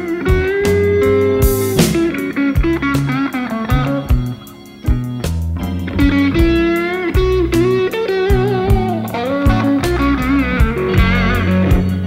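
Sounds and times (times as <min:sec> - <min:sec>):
bass and drums: 0:00.0 - 0:12.0
blues electric guitar lead: 0:00.0 - 0:12.0.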